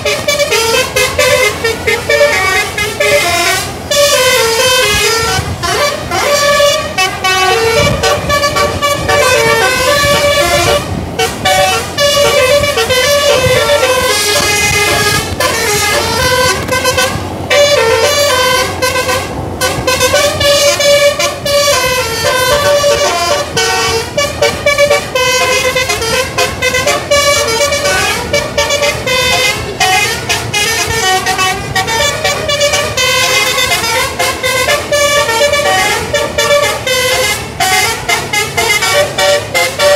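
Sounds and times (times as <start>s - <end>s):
melodic bus horn: 0.0s - 39.9s.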